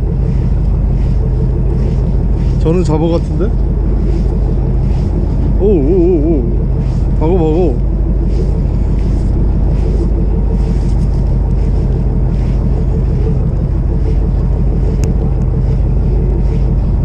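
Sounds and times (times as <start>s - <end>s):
boat engine humming: 0.0s - 17.0s
wind noise on microphone: 0.0s - 17.0s.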